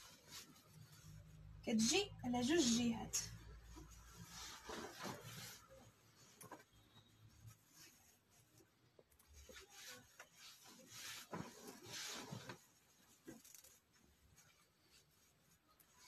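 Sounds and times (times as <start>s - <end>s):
fabric rustling: 0.0s - 16.0s.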